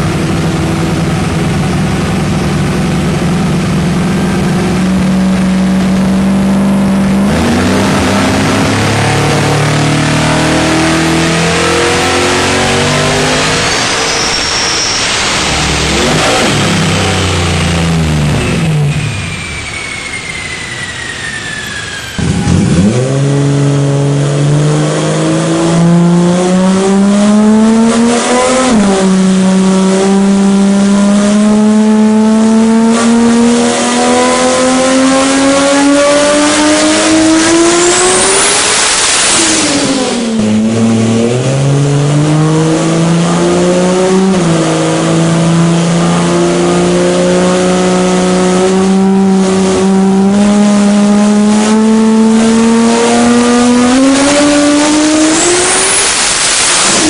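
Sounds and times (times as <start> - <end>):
car engine revving at full throttle: 0.0 - 57.0.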